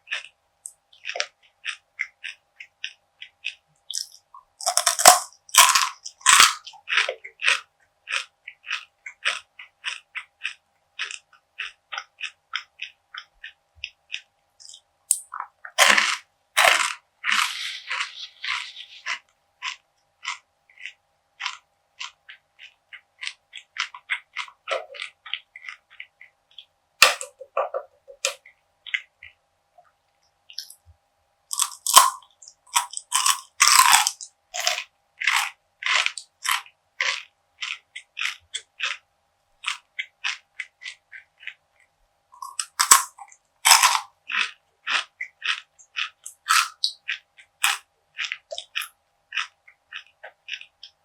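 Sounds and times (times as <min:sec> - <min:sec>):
person chewing crisp snack: 0:00.0 - 0:29.9, 0:30.5 - 0:30.9, 0:31.5 - 0:41.8, 0:42.4 - 0:51.0
faint steady hum: 0:00.0 - 0:51.0.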